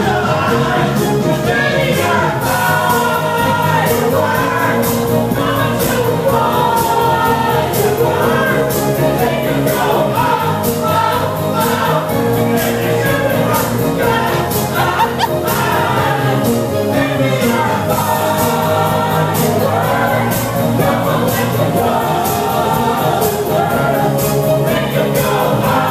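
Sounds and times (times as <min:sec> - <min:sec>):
song with choir-like singing: 0:00.0 - 0:25.9.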